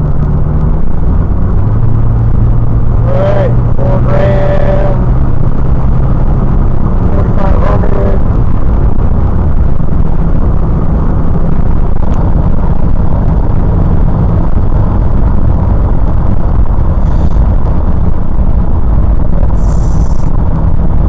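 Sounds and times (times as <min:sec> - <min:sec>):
car engine at high revs: 0:00.0 - 0:21.0
road noise: 0:00.0 - 0:21.0.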